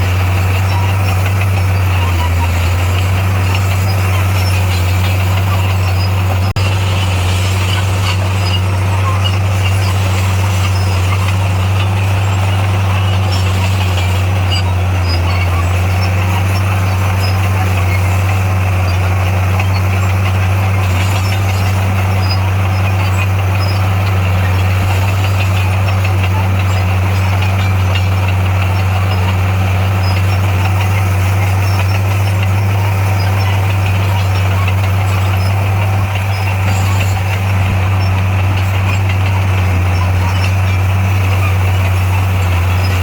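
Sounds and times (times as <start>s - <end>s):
heavy diesel engine droning: 0.0s - 43.0s.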